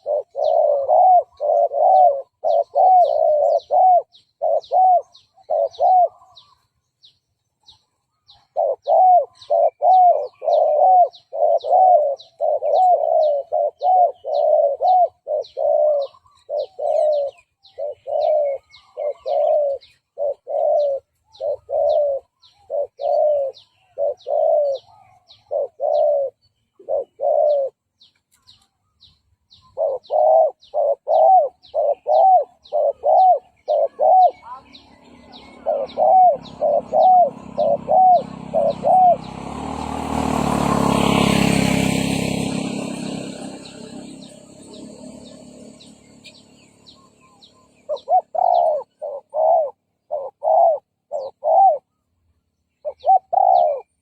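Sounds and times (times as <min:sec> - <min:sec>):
dove cooing: 0:00.0 - 0:06.7, 0:08.3 - 0:27.9, 0:29.6 - 0:52.0, 0:52.8 - 0:54.0.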